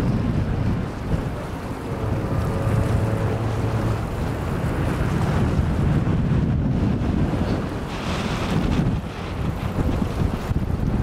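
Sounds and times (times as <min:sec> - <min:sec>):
waves washing against rocks: 0:00.0 - 0:11.0
wind buffeting microphone: 0:00.0 - 0:11.0.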